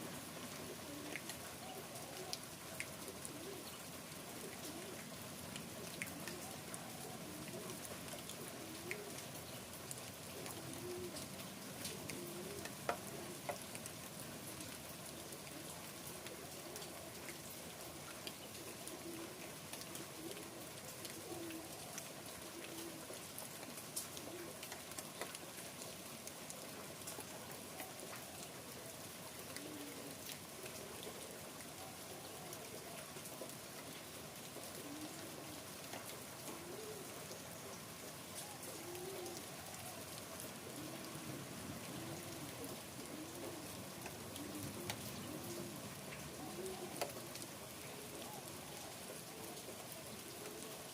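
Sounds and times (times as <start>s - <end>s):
rain falling: 0.0s - 50.9s
bird cooing: 0.5s - 9.4s, 10.2s - 13.8s, 15.1s - 17.5s, 18.4s - 23.2s, 24.0s - 25.4s, 27.6s - 50.9s.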